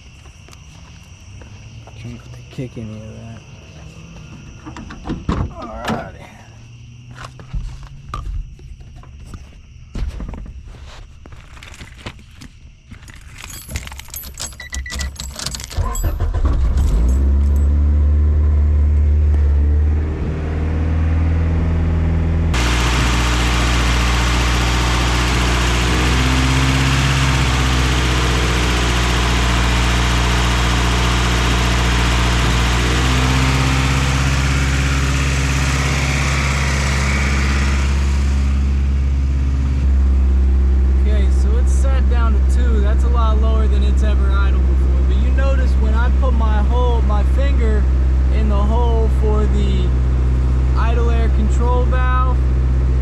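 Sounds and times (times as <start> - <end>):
car engine cranking and idling: 0.0 - 9.4, 11.3 - 53.0.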